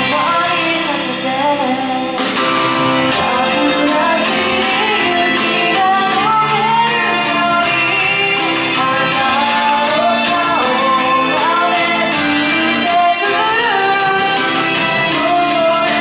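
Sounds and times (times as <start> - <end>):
instrumental backing music: 0.0 - 16.0
woman singing into microphone: 0.0 - 16.0.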